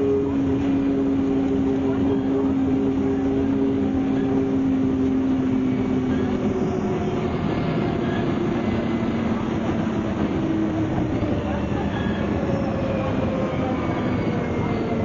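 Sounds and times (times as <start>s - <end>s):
bus engine drone and whine: 0.0s - 15.0s.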